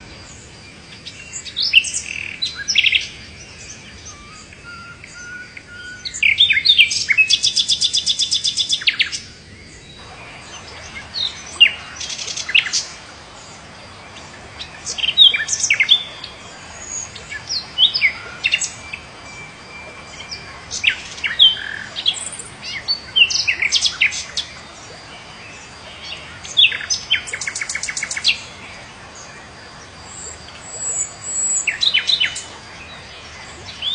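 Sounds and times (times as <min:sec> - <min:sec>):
birds chirping and whistling: 0:00.2 - 0:33.9.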